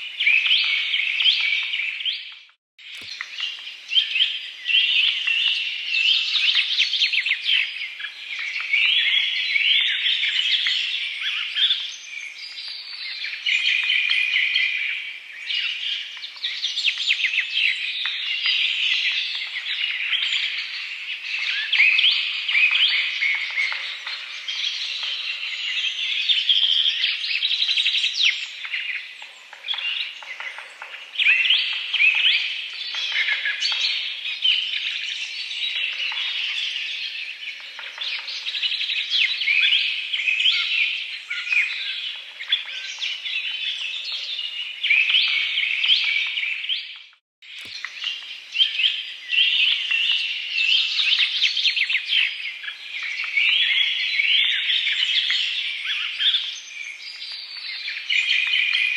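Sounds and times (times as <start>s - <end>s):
small birds chirping and trilling: 0.0s - 58.9s.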